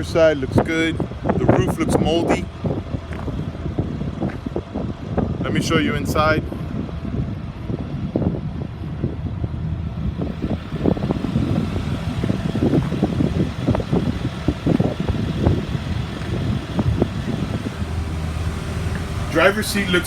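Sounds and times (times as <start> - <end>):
bus engine idling: 0.0 - 20.0.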